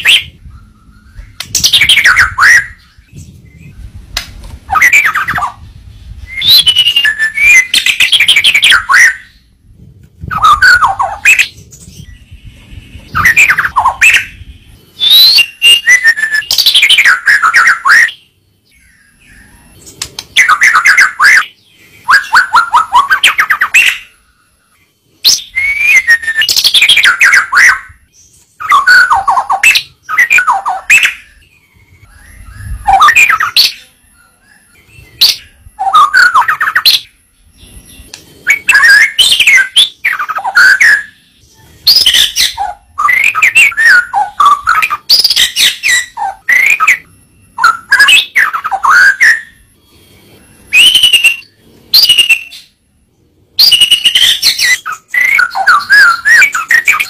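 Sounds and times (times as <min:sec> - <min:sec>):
bird singing whistled phrases: 0:00.0 - 0:03.8, 0:04.7 - 0:05.6, 0:06.2 - 0:09.6, 0:10.3 - 0:24.3, 0:25.2 - 0:49.7, 0:50.3 - 0:52.8, 0:53.6 - 0:57.0.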